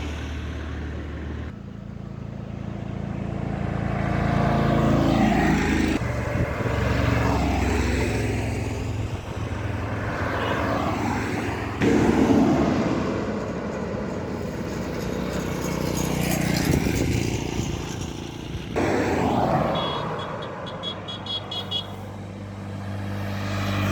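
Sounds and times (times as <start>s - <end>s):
bus and truck engines: 0.0s - 23.9s
vehicles sweeping past: 0.0s - 23.9s.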